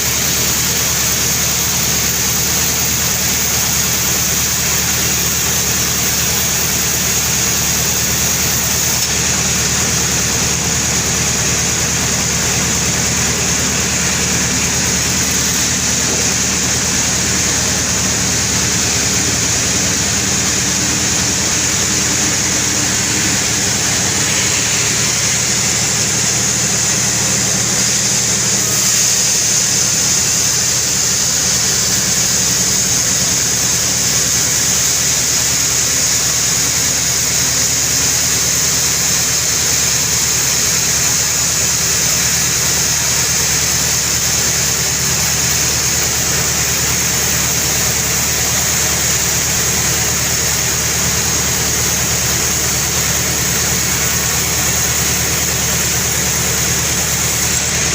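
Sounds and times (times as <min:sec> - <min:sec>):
sawmill saw cutting wood: 0:00.0 - 0:57.9.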